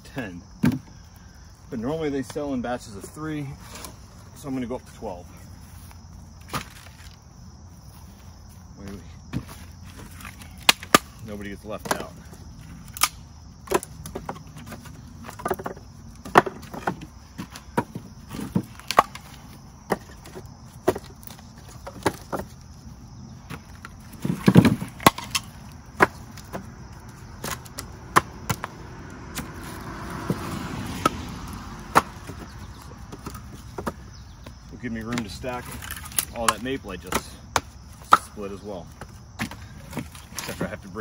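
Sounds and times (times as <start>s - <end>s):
firewood pieces clunking: 0.6s - 1.3s, 5.6s - 7.2s, 7.8s - 41.0s.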